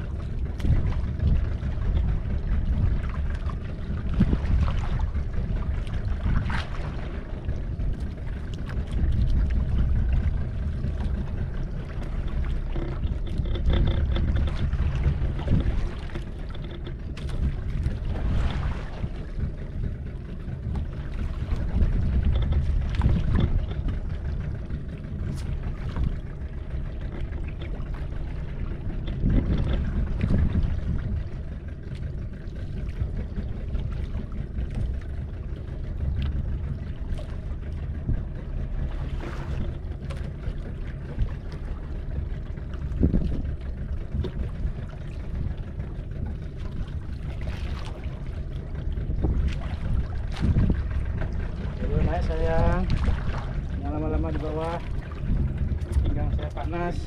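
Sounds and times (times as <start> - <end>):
rumble of wind and water: 0.0 - 57.0.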